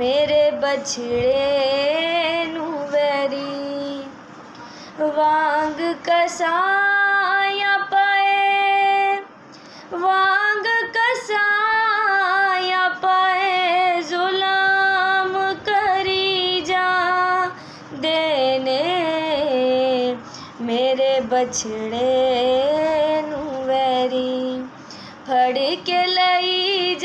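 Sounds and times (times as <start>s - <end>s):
woman singing a hymn unaccompanied: 0.0s - 4.2s, 4.9s - 9.3s, 9.9s - 27.0s.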